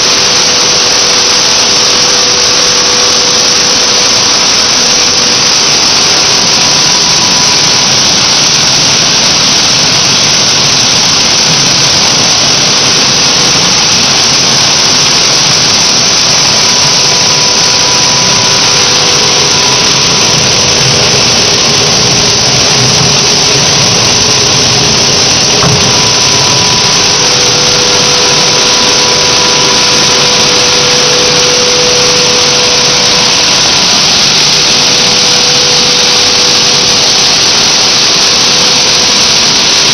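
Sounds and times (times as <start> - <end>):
machine noise: 0.0 - 39.9.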